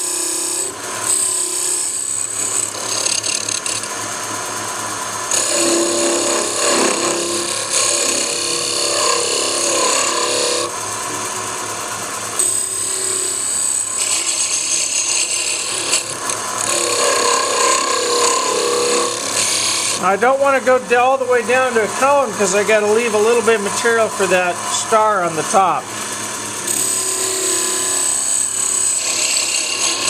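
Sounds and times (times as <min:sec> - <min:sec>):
chisel cutting spinning wood: 0:00.0 - 0:30.0
lathe humming: 0:00.0 - 0:30.0.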